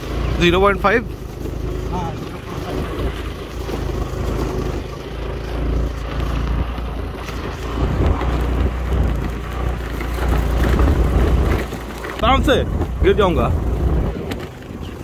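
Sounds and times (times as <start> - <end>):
motor scooter engine rumbling: 0.0 - 15.0.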